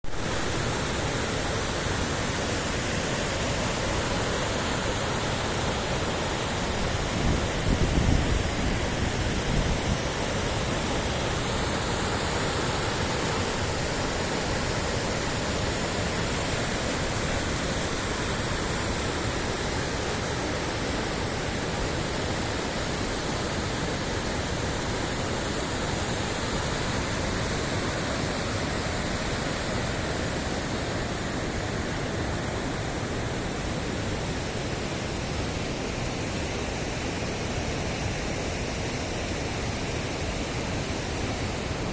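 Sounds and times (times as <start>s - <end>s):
rush of falling water: 0.0s - 41.9s.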